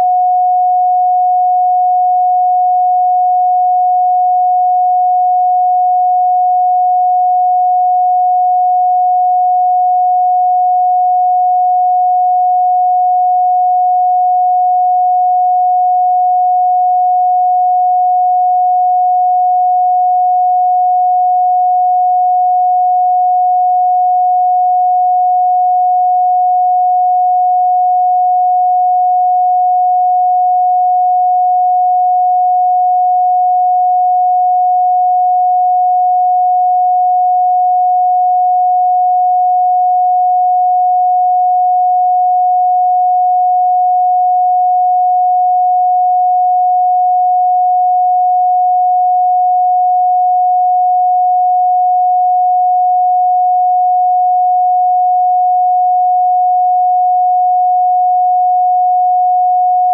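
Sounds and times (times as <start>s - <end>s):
steady sine tone: 0.0s - 59.9s.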